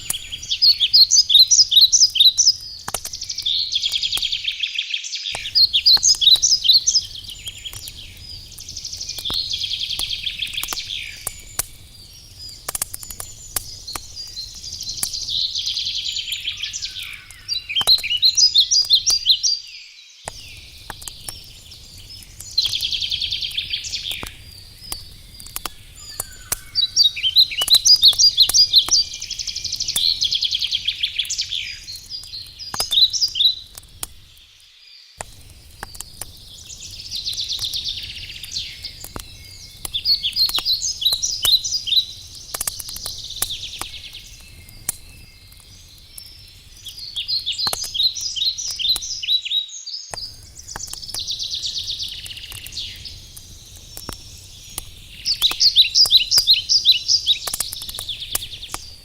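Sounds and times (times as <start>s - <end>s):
campfire crackling: 0.0s - 49.5s, 50.1s - 59.0s
songbirds singing: 0.0s - 59.0s.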